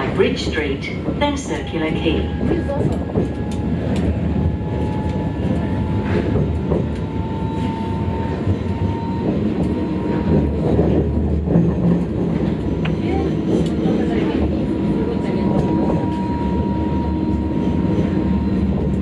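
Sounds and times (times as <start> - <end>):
tram rumble: 0.0 - 19.0.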